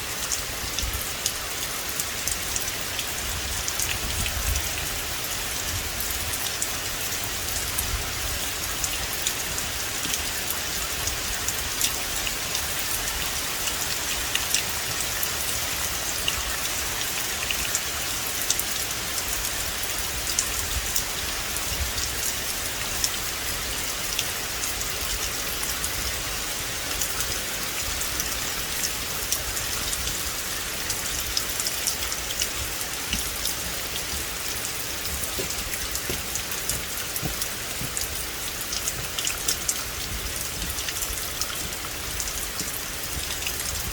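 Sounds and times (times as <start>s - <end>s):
rain falling on forest: 0.0s - 43.9s.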